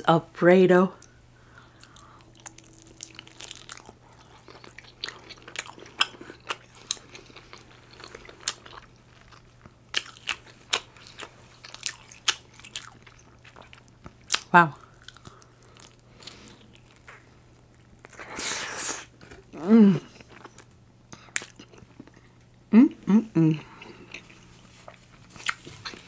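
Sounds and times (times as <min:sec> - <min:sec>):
faint low hum: 0:00.0 - 0:26.0
close chewing with mouth clicks: 0:01.6 - 0:19.5, 0:20.1 - 0:22.3, 0:23.8 - 0:26.0.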